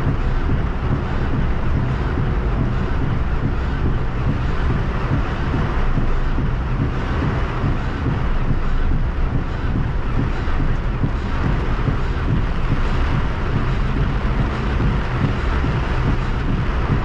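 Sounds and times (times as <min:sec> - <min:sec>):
deep rumble: 0:00.0 - 0:17.0
heavy rain on car: 0:00.0 - 0:17.0.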